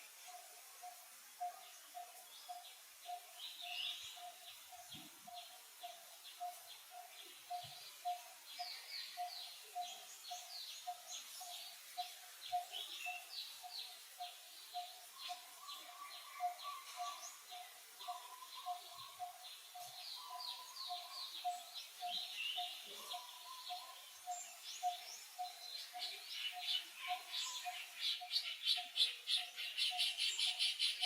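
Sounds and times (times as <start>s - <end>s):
birds chirping: 1.4s - 31.0s.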